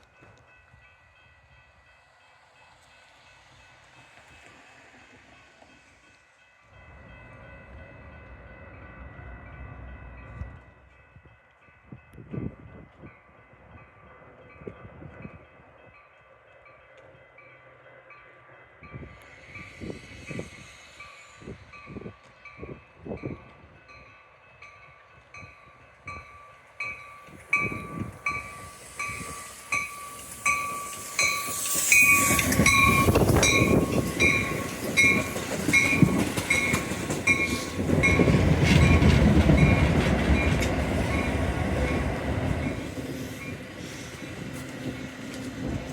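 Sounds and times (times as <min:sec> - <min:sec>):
train passing: 0:00.0 - 0:45.9
crossing warning bell ringing: 0:06.1 - 0:20.4, 0:21.0 - 0:45.8.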